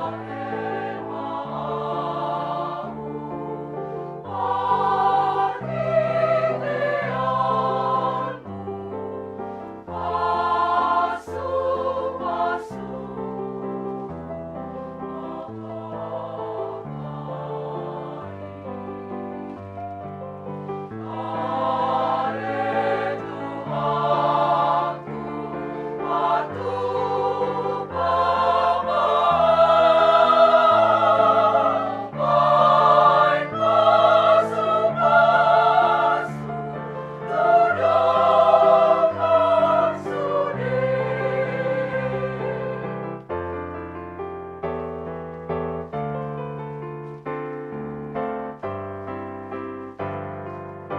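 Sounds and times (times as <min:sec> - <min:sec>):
women's choir singing: 0:00.0 - 0:43.2.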